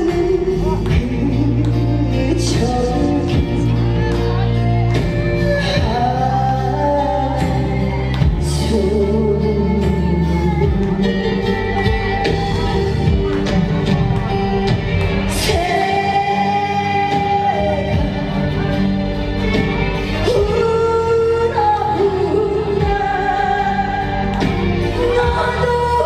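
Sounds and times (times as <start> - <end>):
loud backing track: 0.0 - 26.0
woman singing into a microphone: 0.0 - 26.0.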